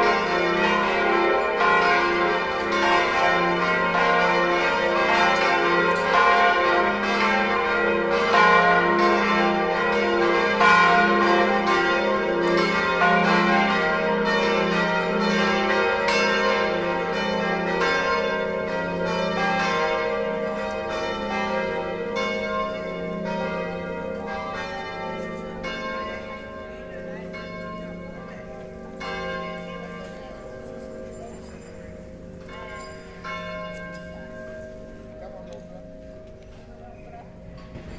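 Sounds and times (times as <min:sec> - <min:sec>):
church bells pealing: 0:00.0 - 0:37.9.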